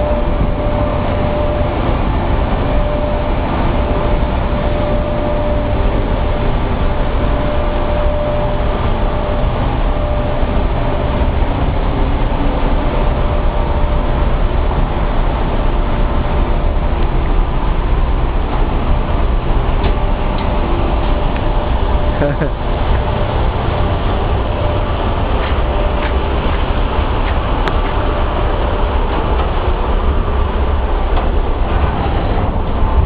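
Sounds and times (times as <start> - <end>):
faint steady whine: 0.0 - 33.0
machinery running: 0.0 - 33.0.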